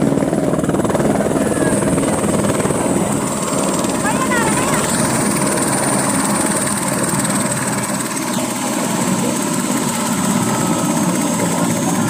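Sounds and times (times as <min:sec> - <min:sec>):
helicopter engine and rotor: 0:00.0 - 0:12.0
helicopter turbine whine: 0:00.0 - 0:12.0.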